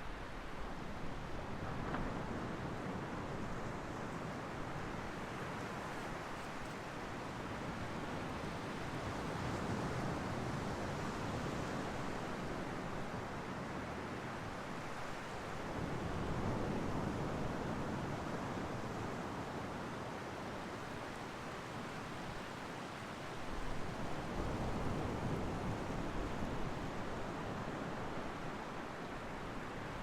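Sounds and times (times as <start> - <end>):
ocean waves washing ashore: 0.0 - 30.0.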